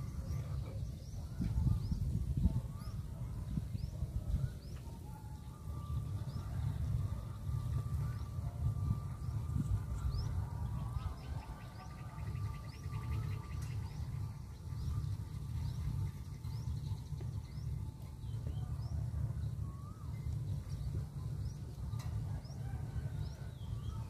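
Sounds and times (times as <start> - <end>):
lower curving bird calls: 0.0 - 24.0
steady low rumble: 0.0 - 24.0.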